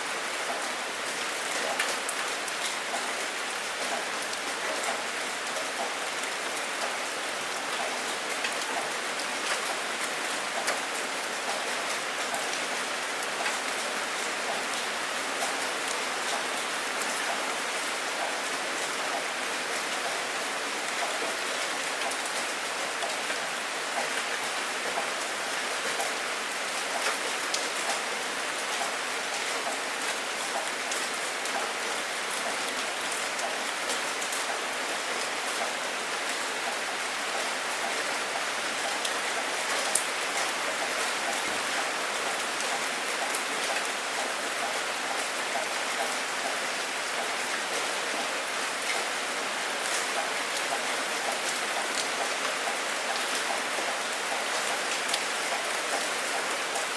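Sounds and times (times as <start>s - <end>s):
heavy rain falling: 0.0s - 56.9s
raindrops striking a surface: 0.1s - 56.9s.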